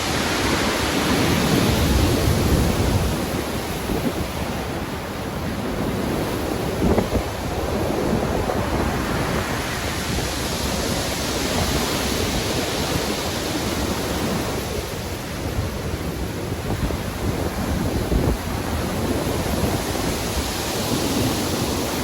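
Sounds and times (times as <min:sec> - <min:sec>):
heavy surf and waves roaring: 0:00.0 - 0:22.0.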